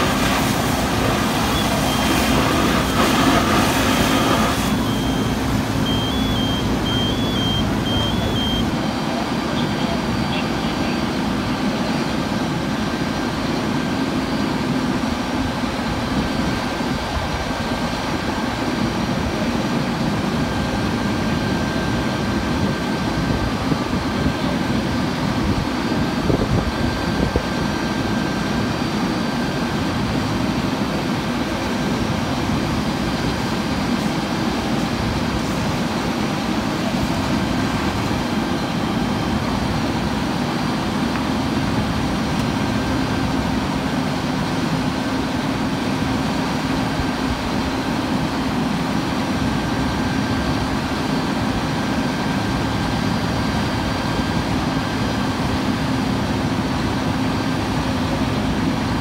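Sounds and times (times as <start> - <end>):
fire truck engines running: 0.0 - 59.0.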